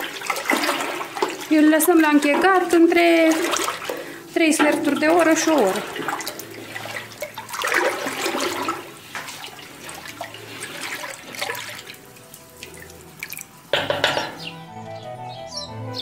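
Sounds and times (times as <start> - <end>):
milk sloshing in pot: 0.0 - 14.3
splash: 0.0 - 14.3.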